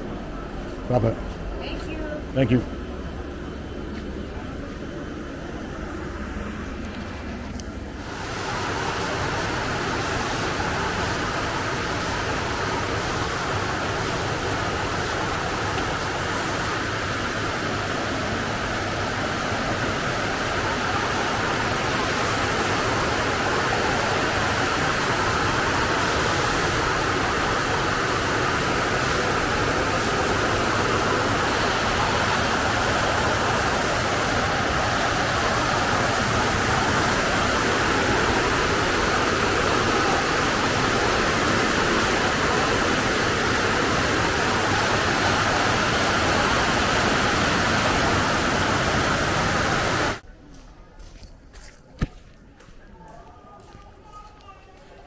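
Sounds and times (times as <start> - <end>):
steady rushing noise: 0.0 - 50.2.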